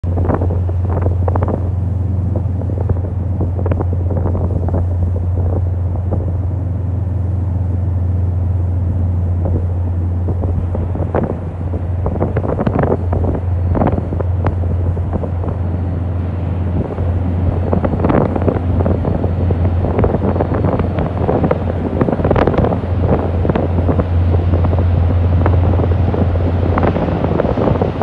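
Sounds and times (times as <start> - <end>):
low rumble: 0.0 - 28.0
wind buffeting microphone: 0.0 - 28.0.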